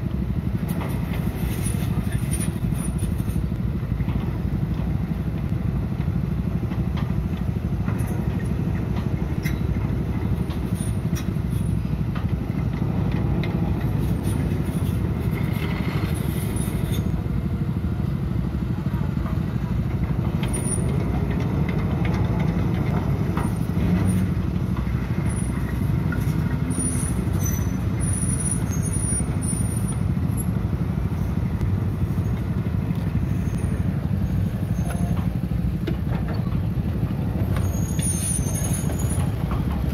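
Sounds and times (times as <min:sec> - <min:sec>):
diesel engine running: 0:00.0 - 0:39.9
light clicks and clanks: 0:00.1 - 0:17.0, 0:18.8 - 0:30.5, 0:31.2 - 0:39.9.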